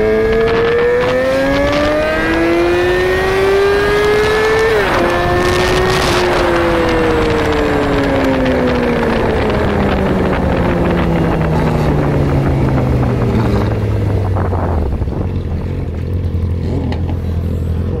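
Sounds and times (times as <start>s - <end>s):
motorcycle engine revs falling: 0.0s - 18.0s
wind and road noise: 0.0s - 18.0s.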